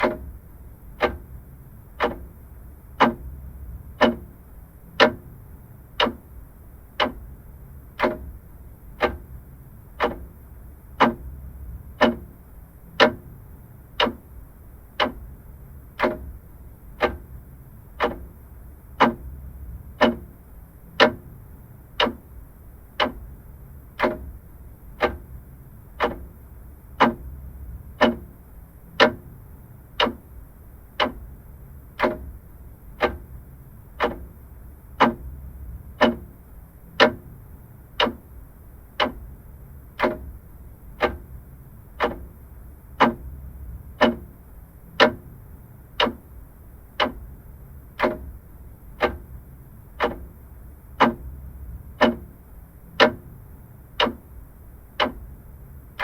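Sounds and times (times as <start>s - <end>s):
faint low hum: 0.0s - 56.0s
mechanical clock ticking: 0.0s - 56.0s.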